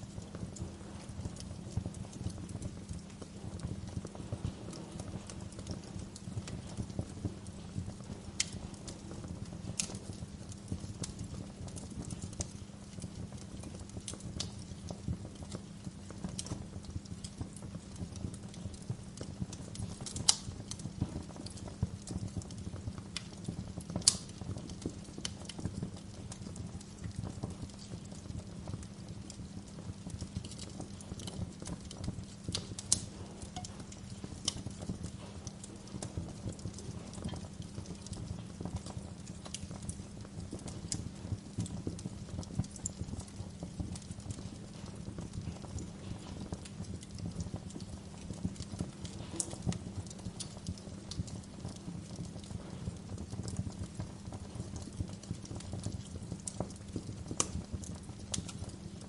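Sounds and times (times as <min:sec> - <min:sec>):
fire pops and snaps: 0:00.0 - 0:59.0
wood fire crackling: 0:00.0 - 0:59.0.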